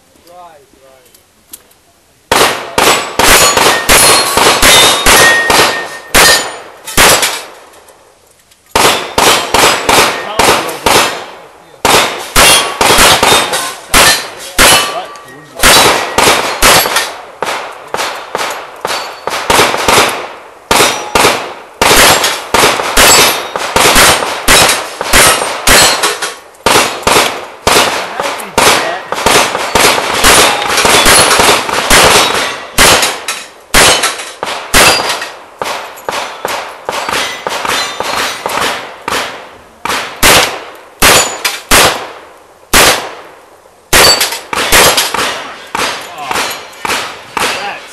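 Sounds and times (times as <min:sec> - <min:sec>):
revolver gunshots ringing: 0:02.3 - 0:07.6, 0:08.8 - 0:47.8.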